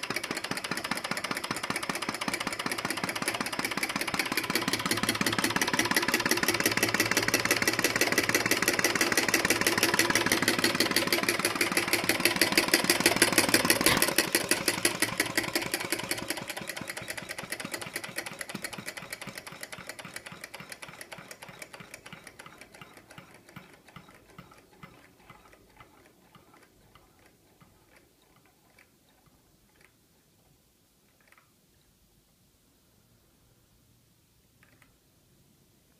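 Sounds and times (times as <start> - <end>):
model engine clicking: 0.0 - 30.0, 31.1 - 31.5, 34.6 - 34.9.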